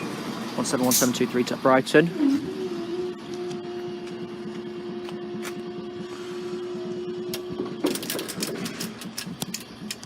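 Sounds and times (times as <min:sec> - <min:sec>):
diesel train engine hum: 0:00.0 - 0:10.0.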